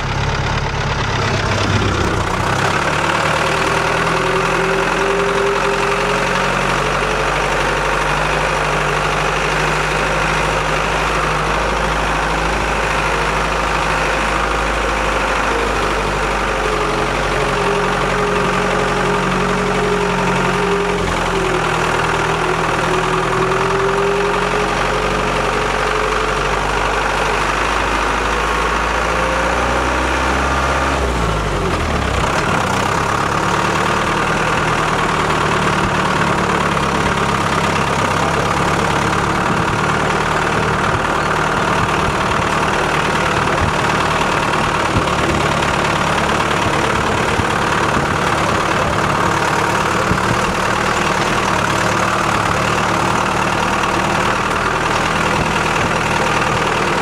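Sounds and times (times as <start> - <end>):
vehicle engine driving slowly: 0.0 - 57.0.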